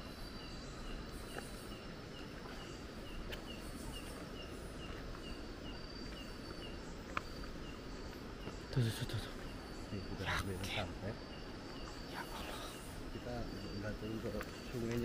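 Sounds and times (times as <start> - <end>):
high insect hum: 0.0 - 15.0.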